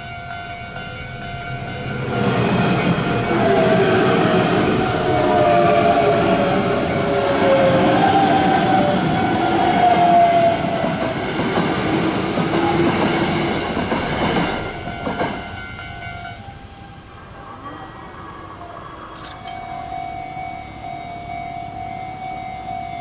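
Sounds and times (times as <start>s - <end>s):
electric train passing: 0.0s - 23.0s
level crossing warning bell: 0.0s - 23.0s.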